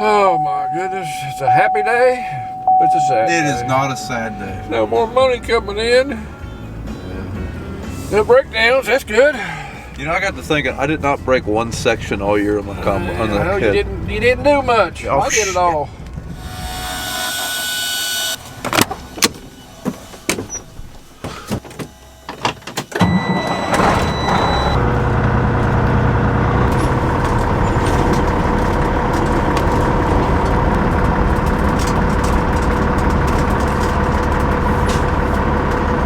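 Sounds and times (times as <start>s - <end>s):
vehicle engine starting and idling: 0.0s - 17.0s, 22.8s - 36.0s.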